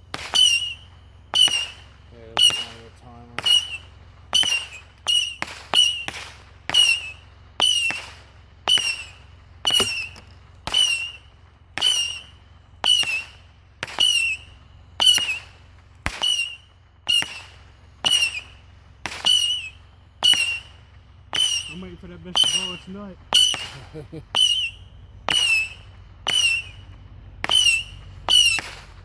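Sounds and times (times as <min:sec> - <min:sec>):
fireworks battery whistling and cracking: 0:00.0 - 0:29.0.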